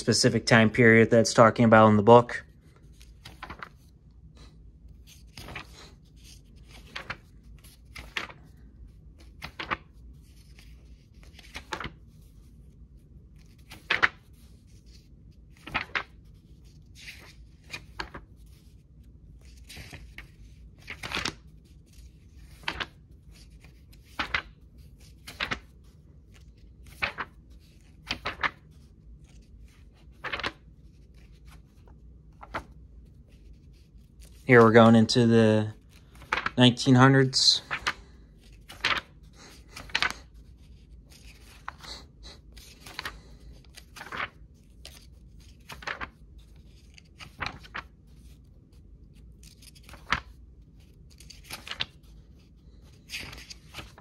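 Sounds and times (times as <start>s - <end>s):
book pages turning: 2.0s - 54.0s.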